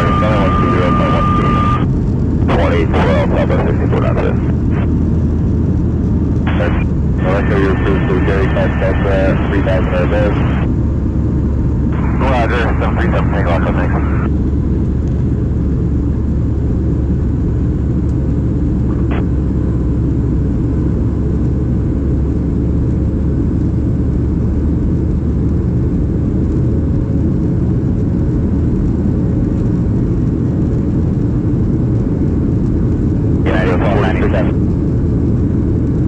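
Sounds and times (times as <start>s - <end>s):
jet engines rumbling in cabin: 0.0s - 36.0s.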